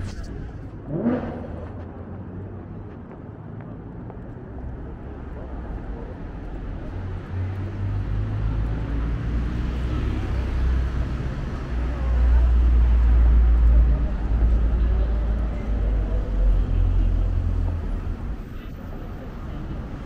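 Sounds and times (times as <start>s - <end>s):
hum of street traffic: 0.0s - 20.0s.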